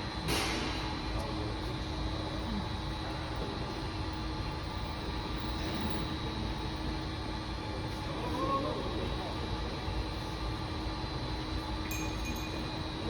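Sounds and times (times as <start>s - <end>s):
mechanical hum and low rumble: 0.0s - 13.0s.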